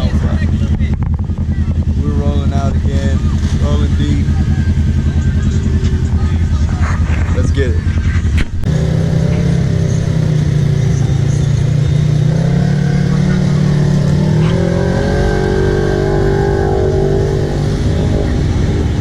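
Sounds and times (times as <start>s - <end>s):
vehicle engine revving high: 0.0s - 19.0s.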